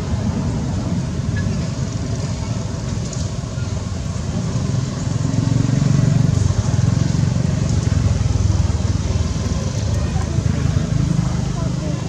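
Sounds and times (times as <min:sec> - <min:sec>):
low pulsing engine rumble: 0:00.0 - 0:12.0.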